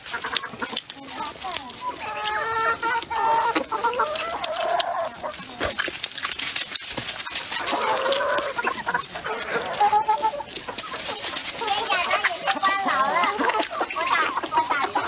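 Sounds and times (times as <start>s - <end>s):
chewing and mouth clicks: 0.0s - 15.0s
chickens clucking: 0.0s - 15.0s.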